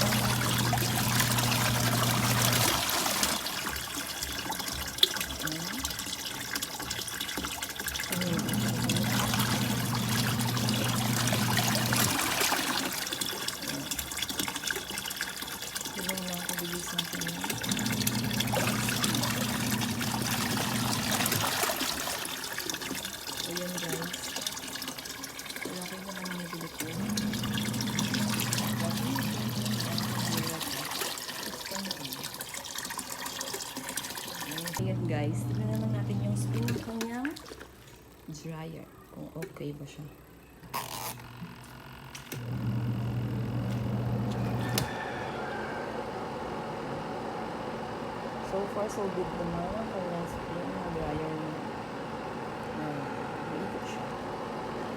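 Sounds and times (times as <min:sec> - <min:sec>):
spin-dryer whirring: 0:00.0 - 0:07.1, 0:08.1 - 0:32.5, 0:33.8 - 0:37.2, 0:41.1 - 0:54.9
water churning in tub: 0:00.0 - 0:38.4, 0:42.4 - 0:54.9
washing machine motor humming: 0:00.0 - 0:54.9.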